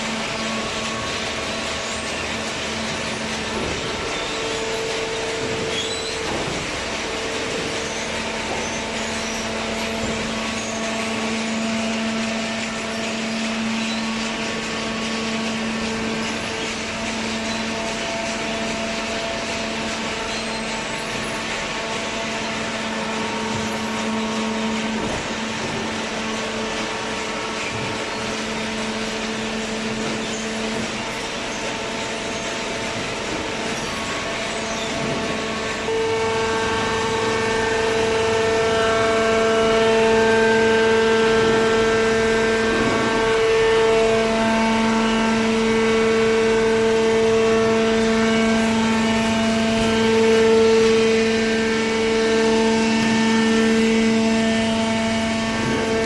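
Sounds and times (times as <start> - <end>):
hydraulic baler humming: 0.0 - 56.0.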